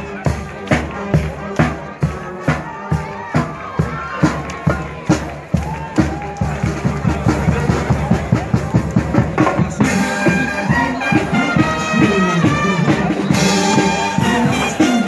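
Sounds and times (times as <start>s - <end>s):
brass melody: 0.0s - 5.5s, 6.5s - 15.0s
steady drum beat: 0.0s - 15.0s.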